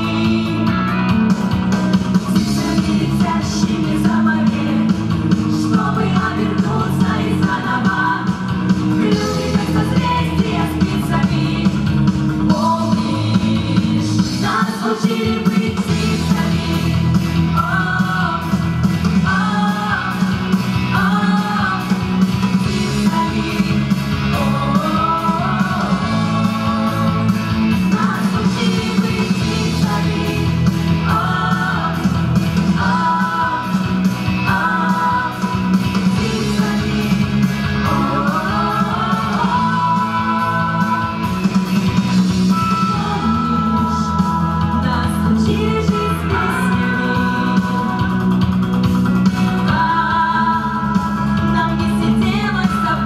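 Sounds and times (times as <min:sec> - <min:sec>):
men and women singing: 0:00.0 - 0:00.9, 0:02.2 - 0:41.6, 0:42.6 - 0:48.3, 0:49.5 - 0:53.0
amplified instrumental accompaniment: 0:00.0 - 0:53.0.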